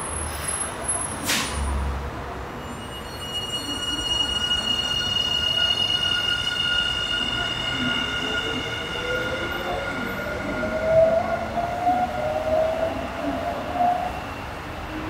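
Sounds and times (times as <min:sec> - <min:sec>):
high-pitched metallic train squeal: 0:02.6 - 0:15.0.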